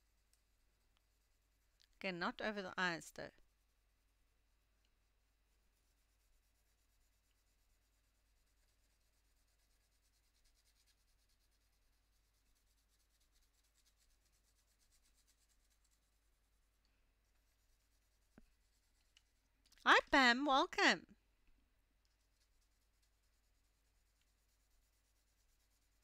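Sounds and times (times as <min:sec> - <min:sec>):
colored pencil scratching paper: 0:00.0 - 0:01.8, 0:03.4 - 0:20.9, 0:22.0 - 0:26.0.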